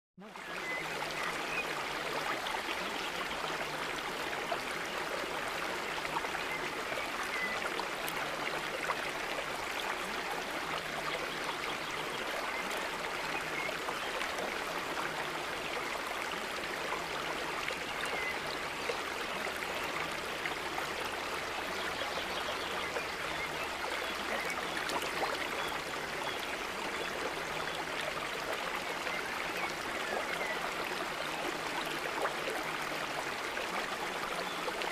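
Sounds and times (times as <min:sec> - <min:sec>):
running water: 0:00.2 - 0:34.9.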